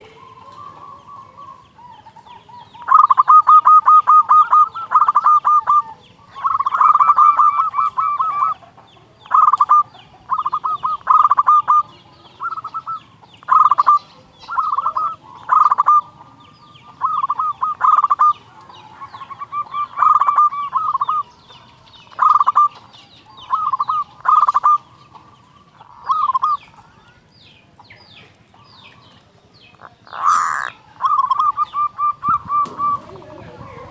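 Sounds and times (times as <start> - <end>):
dove cooing: 0.0 - 33.9.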